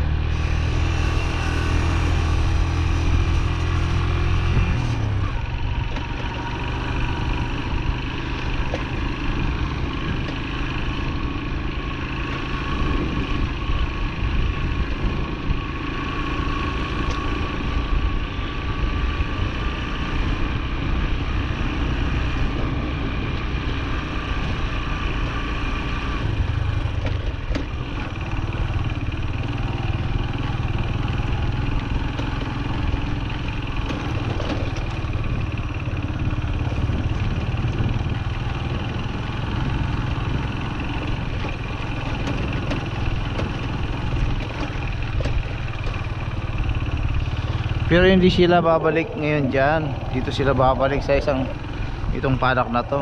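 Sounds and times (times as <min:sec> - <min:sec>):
motorbike engine idling and revving: 0:00.0 - 0:53.0.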